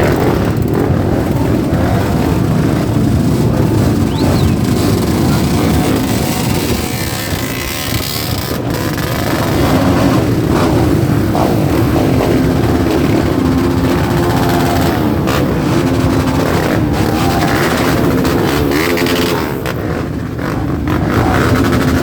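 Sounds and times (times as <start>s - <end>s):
motorcycle engines riding off: 0.0s - 22.0s
steady motorcycle engine note: 0.0s - 22.0s.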